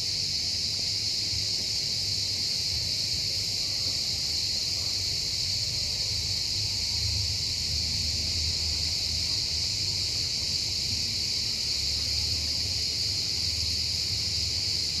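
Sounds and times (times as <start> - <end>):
cicadas buzzing in chorus: 0.0 - 15.0.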